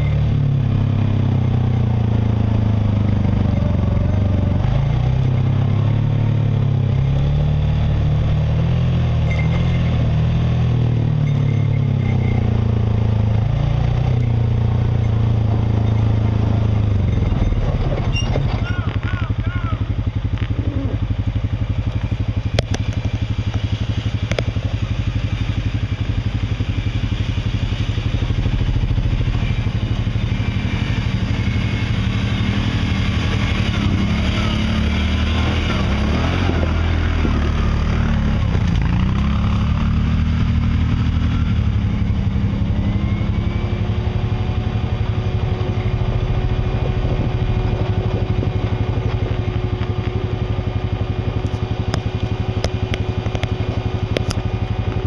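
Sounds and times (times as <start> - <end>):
steady higher whine: 0.0 - 55.0
utv engine running at low revs: 0.0 - 55.0.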